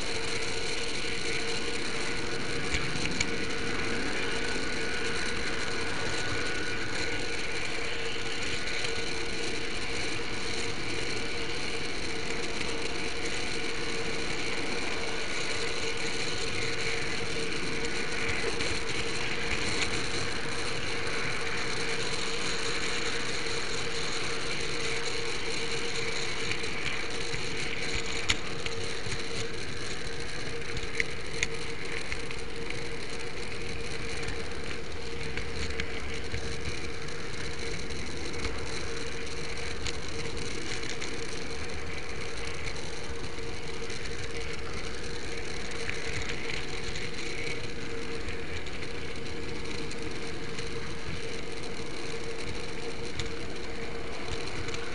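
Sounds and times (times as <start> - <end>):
model train motor whirring: 0.0 - 54.9
wheels clicking on track: 0.0 - 54.9.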